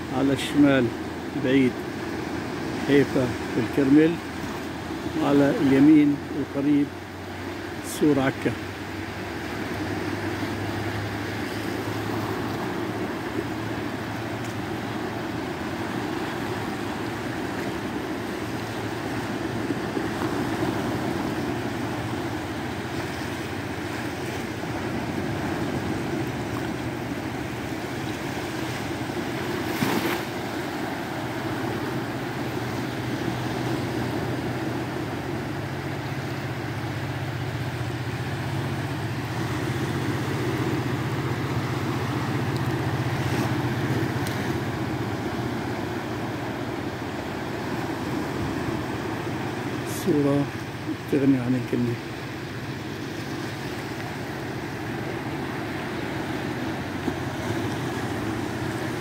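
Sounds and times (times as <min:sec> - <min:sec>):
low engine hum: 0:00.0 - 0:59.0
waves washing over sand: 0:00.0 - 0:59.0.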